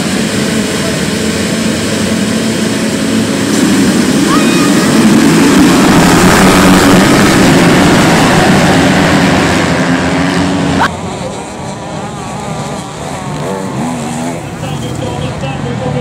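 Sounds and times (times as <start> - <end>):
dirt bikes on track: 0.0 - 16.0
motocross bikes at full throttle: 0.0 - 16.0.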